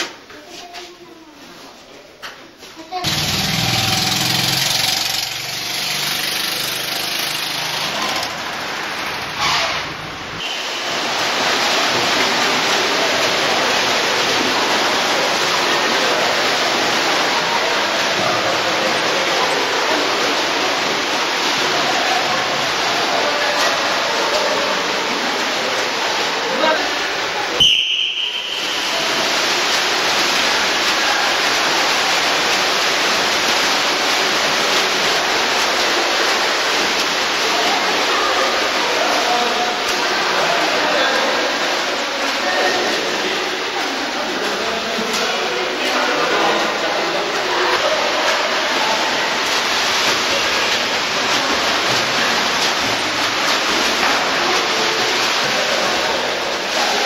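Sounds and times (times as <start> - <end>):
swimmers splashing water: 0.0 - 57.0.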